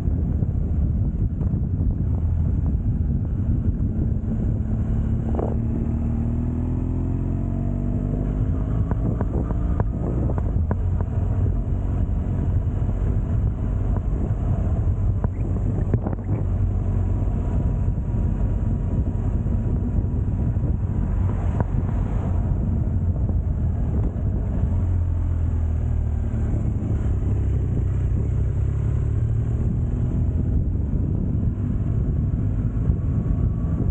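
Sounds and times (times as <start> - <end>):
motorcycle engine accelerating: 0.0 - 33.9
road rumble: 0.0 - 33.9.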